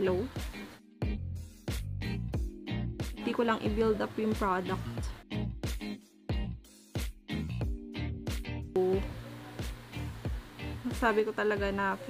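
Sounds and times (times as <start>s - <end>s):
background music with a beat: 0.0s - 11.9s.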